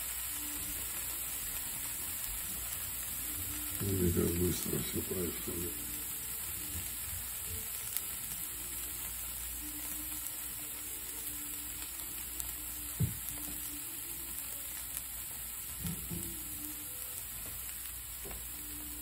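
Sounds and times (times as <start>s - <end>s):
cheese sizzling in frying pan: 0.0s - 19.0s.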